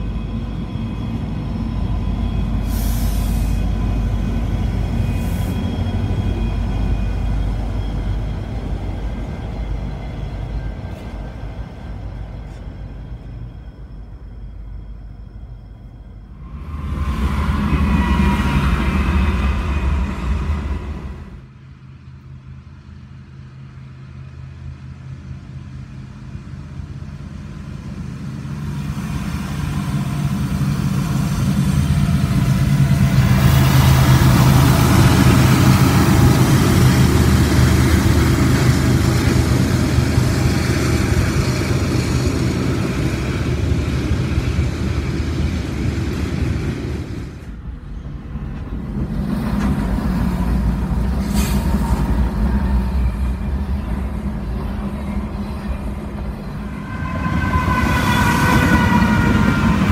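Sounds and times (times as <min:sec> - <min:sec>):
diesel locomotive engine drone: 0:00.0 - 0:59.9
wheels rumbling on rails: 0:00.0 - 0:59.9.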